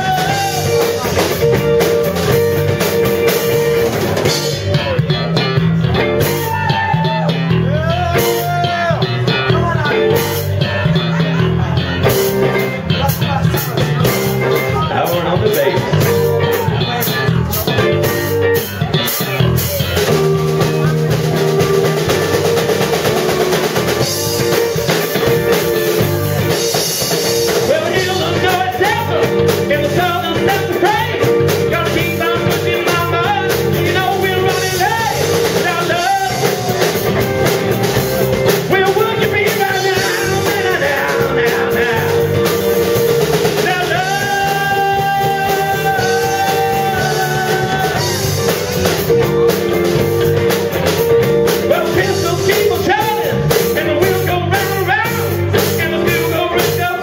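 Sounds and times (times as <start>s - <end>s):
lead singer singing: 0.0s - 49.2s, 51.2s - 57.0s
drum kit: 0.0s - 57.0s
electric guitars: 0.0s - 57.0s.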